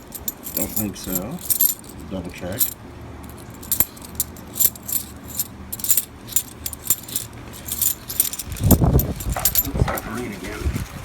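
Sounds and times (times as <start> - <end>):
coins clinking: 0.0 - 10.1.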